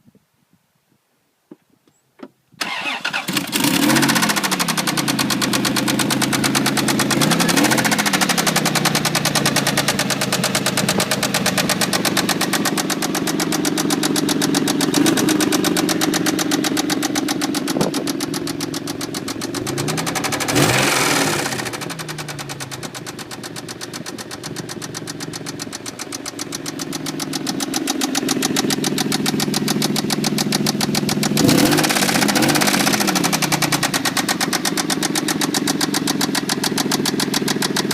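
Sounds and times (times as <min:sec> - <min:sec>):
engine starting and running: 0:02.6 - 0:37.9
rapid engine knock: 0:03.9 - 0:37.9.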